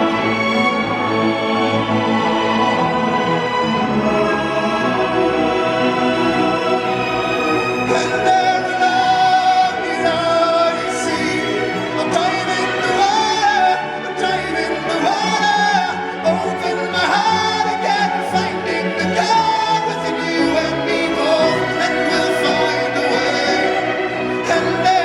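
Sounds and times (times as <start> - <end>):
chamber orchestra: 0.0 - 25.0.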